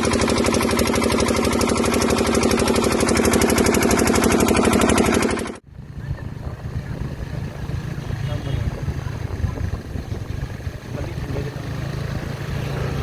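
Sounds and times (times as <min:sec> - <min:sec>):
engine running with rapid knocking: 0:00.0 - 0:13.0.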